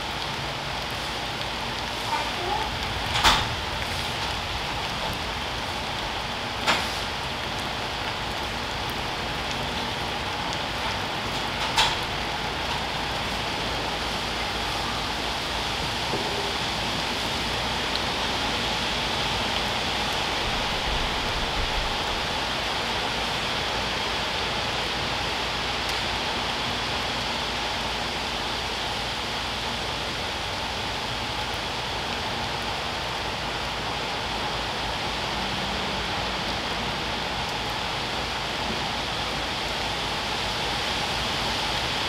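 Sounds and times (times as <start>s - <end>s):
rain falling on pavement: 0.0s - 42.0s.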